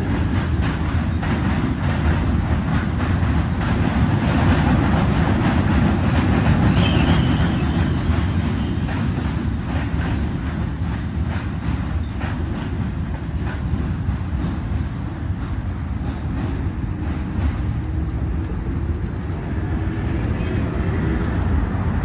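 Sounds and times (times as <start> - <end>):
subway train rumbling on bridge: 0.0 - 22.0.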